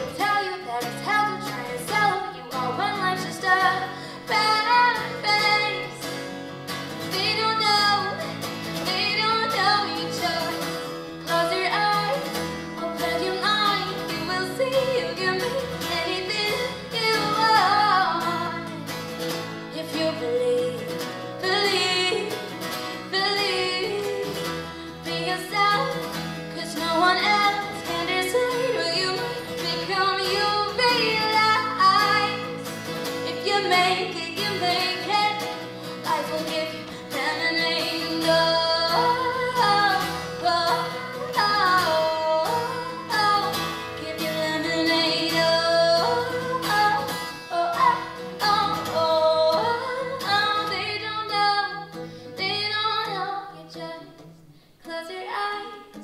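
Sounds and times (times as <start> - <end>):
acoustic guitar: 0.0 - 56.0
woman singing into a microphone: 0.0 - 56.0.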